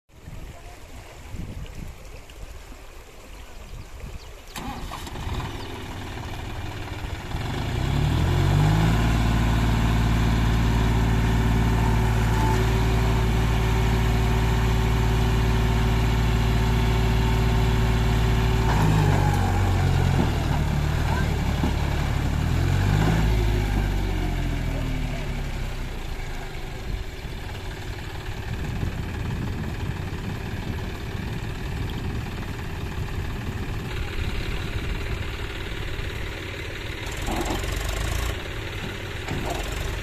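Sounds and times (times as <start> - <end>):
tractor diesel engine revving: 4.5 - 40.0.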